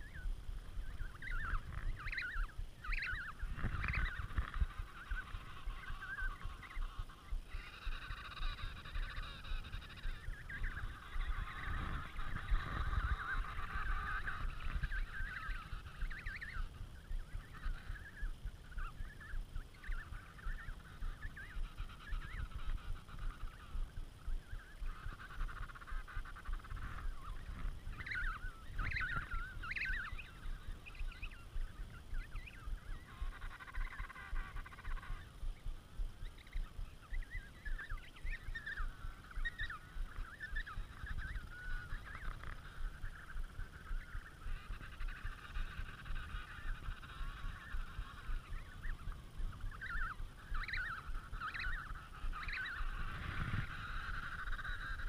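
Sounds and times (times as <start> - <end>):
penguins calling in chorus: 0.0 - 35.4, 36.4 - 55.0.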